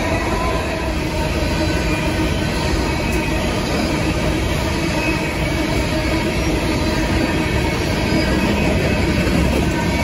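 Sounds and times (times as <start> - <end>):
freight train wheels rumbling on rail: 0.0 - 10.0.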